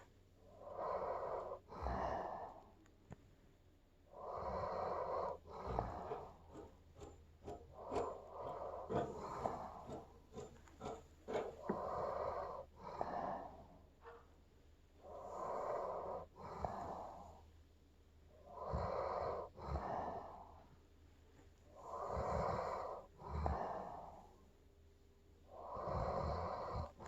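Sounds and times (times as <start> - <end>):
dog snoring: 0.0 - 2.7, 4.1 - 14.3, 15.0 - 17.5, 18.3 - 20.8, 21.7 - 24.4, 25.4 - 27.0.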